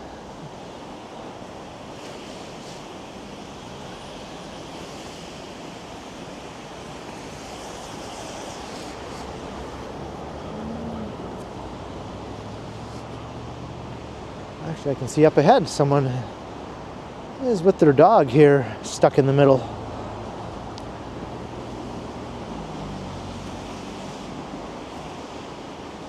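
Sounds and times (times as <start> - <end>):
city traffic: 0.0 - 26.0
wind: 0.0 - 26.0.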